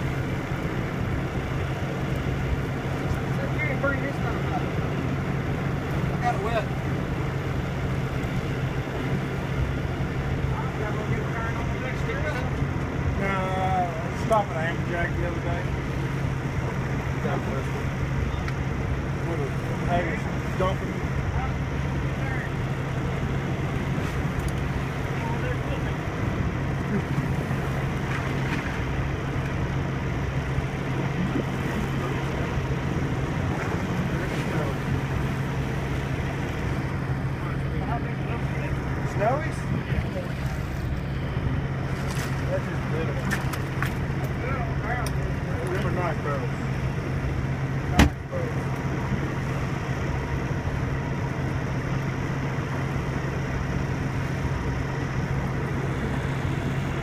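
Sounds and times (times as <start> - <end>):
boat engine humming: 0.0 - 57.0
water noise: 0.0 - 57.0
wind: 0.0 - 57.0.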